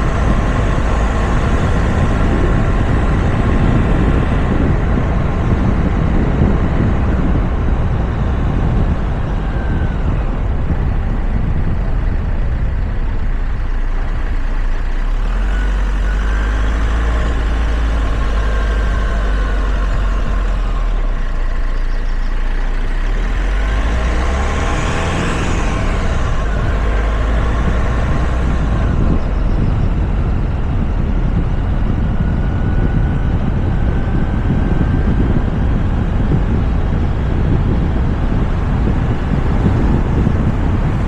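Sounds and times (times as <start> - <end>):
road rumble: 0.0 - 41.0
wind noise: 0.0 - 41.0.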